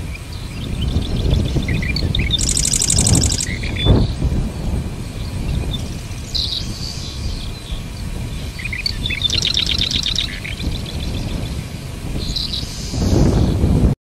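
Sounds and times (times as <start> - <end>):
wren singing rattling trill: 0.0 - 13.6
steady low rumble: 0.0 - 14.0.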